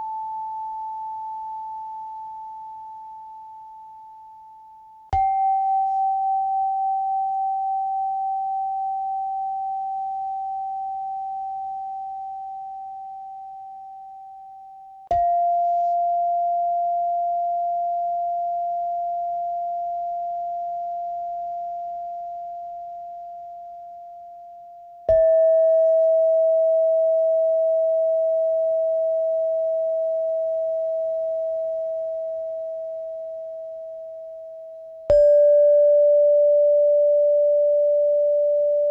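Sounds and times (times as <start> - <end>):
meditation chime ringing: 0.0 - 38.9.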